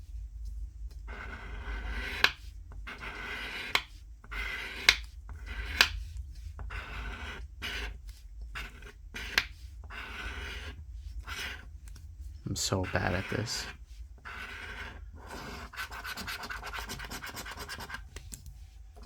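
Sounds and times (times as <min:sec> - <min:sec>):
lottery ticket being scratched: 0:01.1 - 0:06.0, 0:06.6 - 0:11.7, 0:12.4 - 0:18.3.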